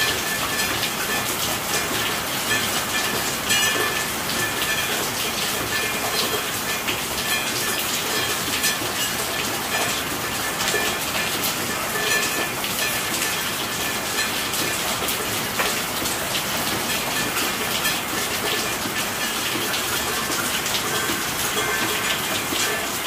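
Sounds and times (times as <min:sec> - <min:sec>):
raindrops ticking on surfaces: 0:00.0 - 0:23.0
steady rain falling: 0:00.0 - 0:23.0.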